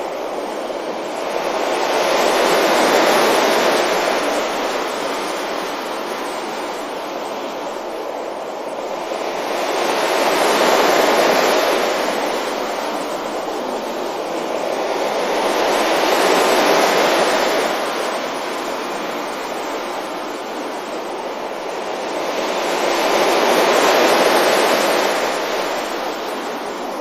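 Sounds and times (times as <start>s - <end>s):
ocean waves breaking on a beach: 0.0s - 27.0s.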